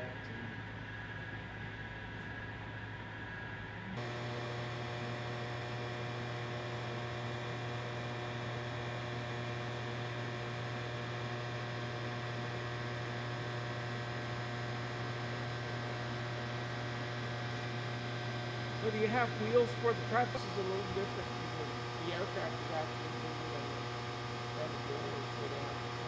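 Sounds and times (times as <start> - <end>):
electrical hum with drone: 0.0 - 26.0.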